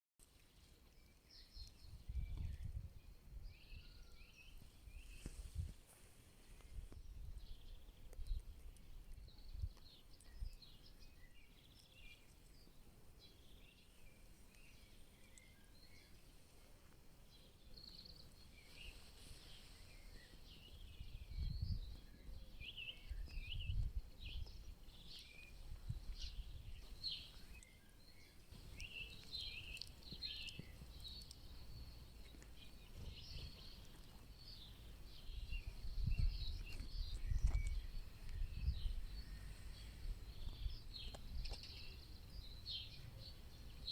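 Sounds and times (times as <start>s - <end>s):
songbirds singing and chirping: 0.2s - 43.9s.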